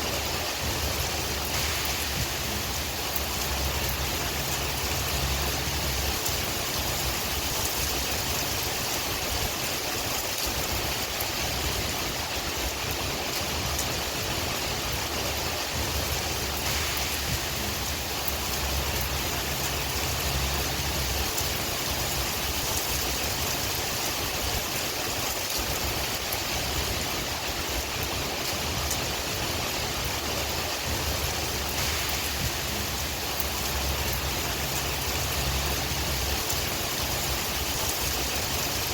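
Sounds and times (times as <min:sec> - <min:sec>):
steady rain: 0:00.0 - 0:38.9
wind: 0:00.0 - 0:38.9.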